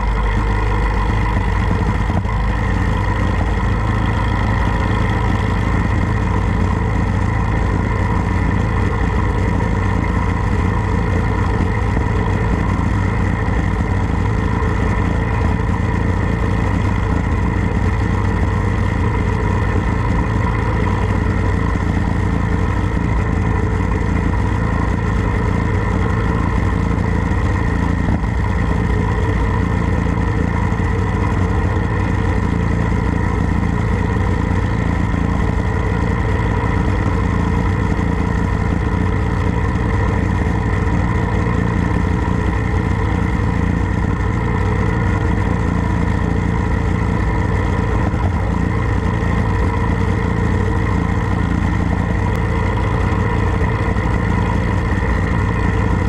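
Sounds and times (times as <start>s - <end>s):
motorcycle engine cruising: 0.0s - 56.0s
road and wind rumble: 0.0s - 56.0s.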